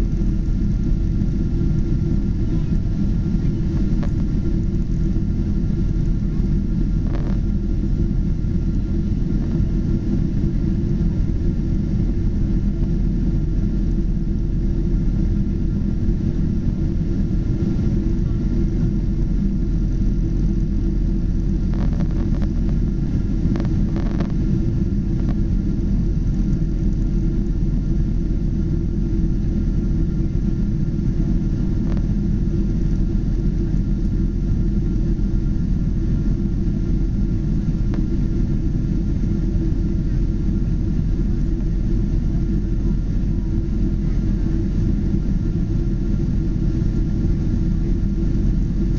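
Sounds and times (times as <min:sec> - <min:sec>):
faint steady whine: 0:00.0 - 0:48.9
jet engine low rumble: 0:00.0 - 0:48.9.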